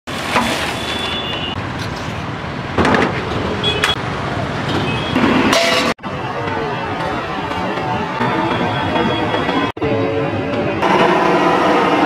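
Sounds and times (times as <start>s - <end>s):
street traffic: 0.1s - 12.0s.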